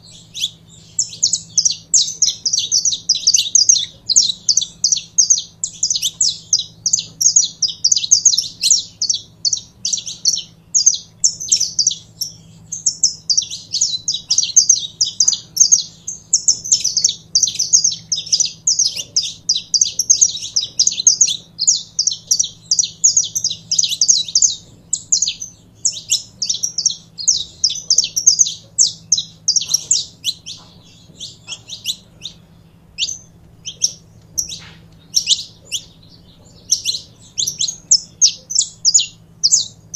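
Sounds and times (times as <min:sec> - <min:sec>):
finch singing high chirps: 0:00.0 - 0:39.9.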